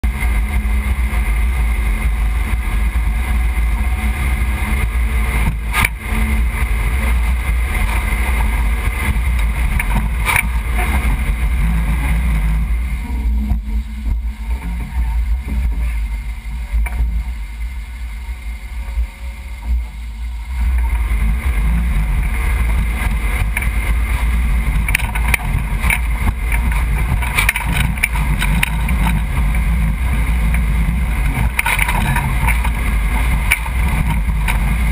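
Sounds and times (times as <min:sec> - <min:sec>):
engine running low and steady: 0:00.0 - 0:34.9.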